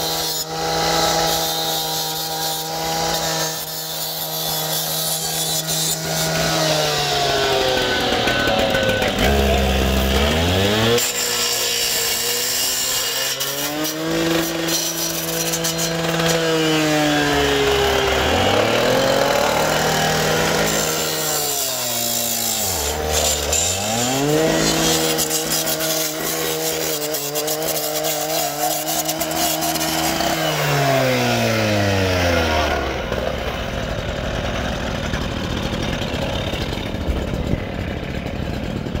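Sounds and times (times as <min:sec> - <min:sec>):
cut-off saw engine revving: 0:00.0 - 0:37.0
saw cutting through chain-link fence: 0:00.0 - 0:39.0.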